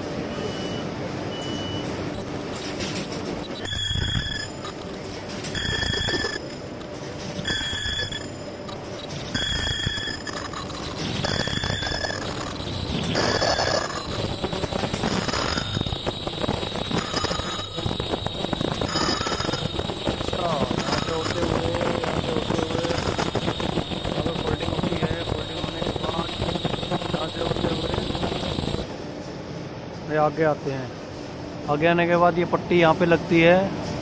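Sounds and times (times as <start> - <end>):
electronic warning beeps: 0.4 - 2.7, 3.4 - 28.9.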